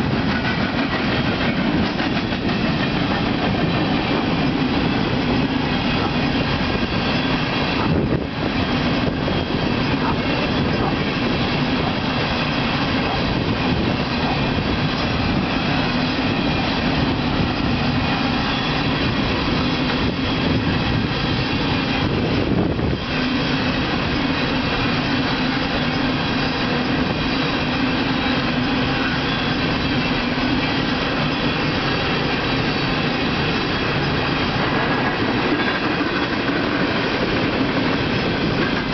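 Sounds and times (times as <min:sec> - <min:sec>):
train cars rolling past: 0:00.0 - 0:38.9.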